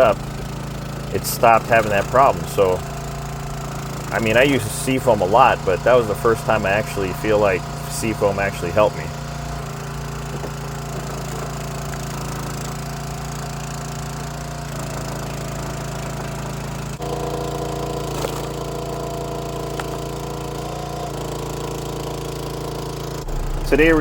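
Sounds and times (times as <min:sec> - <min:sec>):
small gasoline engine running: 0:00.0 - 0:24.0.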